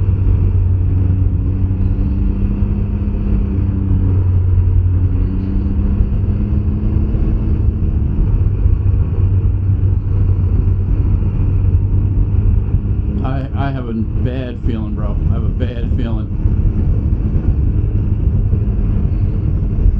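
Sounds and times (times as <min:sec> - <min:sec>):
motorcycle engine rumbling: 0:00.0 - 0:19.9
road noise: 0:00.0 - 0:19.9.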